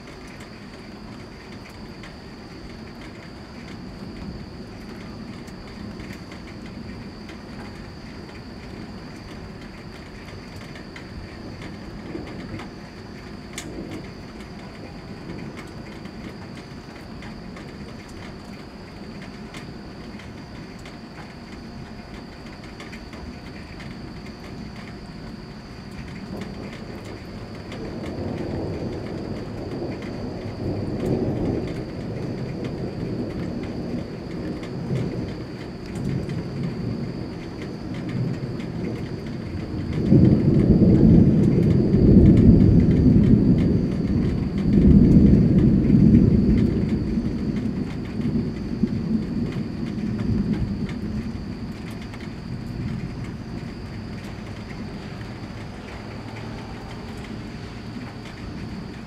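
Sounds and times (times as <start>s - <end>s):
rolling thunder: 0.0s - 59.0s
steady rain: 0.0s - 59.0s.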